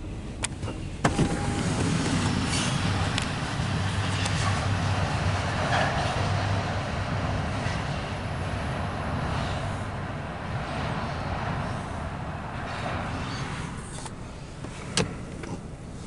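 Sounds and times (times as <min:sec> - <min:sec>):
freight train wheels rumbling: 0:00.0 - 0:16.0
low hum: 0:00.0 - 0:16.0.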